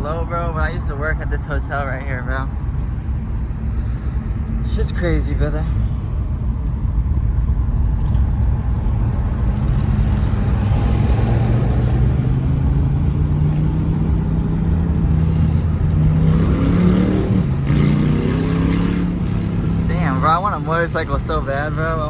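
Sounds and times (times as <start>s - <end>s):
car engine under steady pull: 0.0s - 22.0s
low road rumble: 0.0s - 22.0s.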